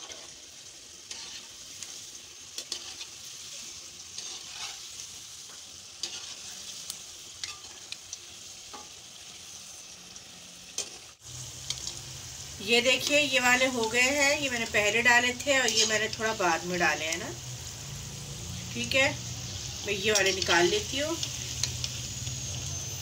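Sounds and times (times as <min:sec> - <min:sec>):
potato wedges sizzling in oil: 0:00.0 - 0:23.0.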